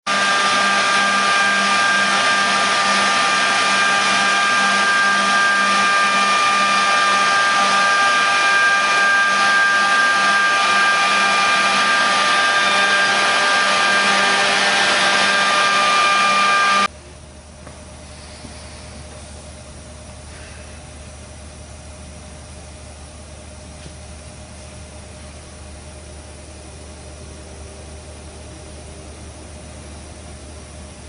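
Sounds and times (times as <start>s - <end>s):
steady whining tones: 0.1s - 31.0s.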